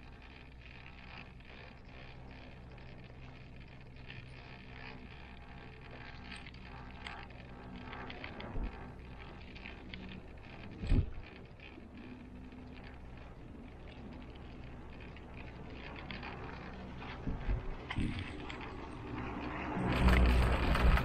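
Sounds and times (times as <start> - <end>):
cable car cabin humming: 0.0 - 21.0
light rattling and clicks: 0.0 - 21.0.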